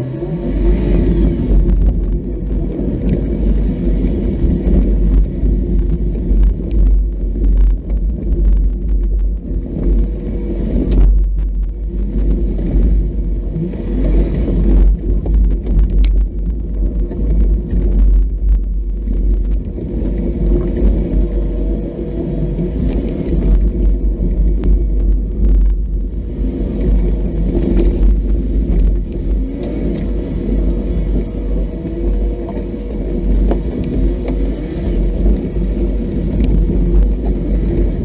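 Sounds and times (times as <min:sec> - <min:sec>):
off-road vehicle engine rumbling: 0:00.0 - 0:38.0.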